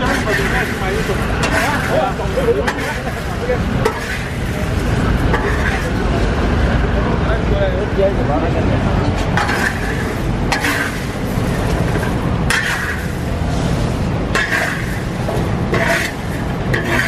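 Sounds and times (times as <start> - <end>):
metal shovel scraping sand in wok: 0.0 - 6.0, 9.3 - 17.0.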